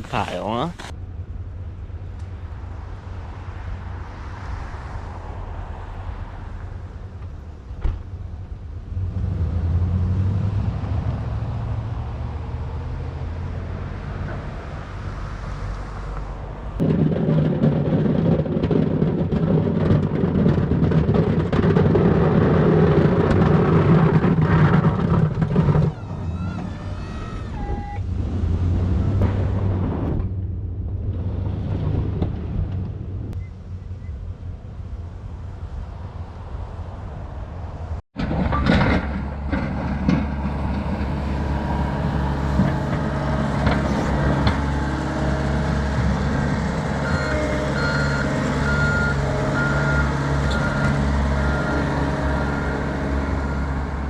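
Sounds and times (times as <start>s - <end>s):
snow plow engine rumbling: 0.0s - 54.0s.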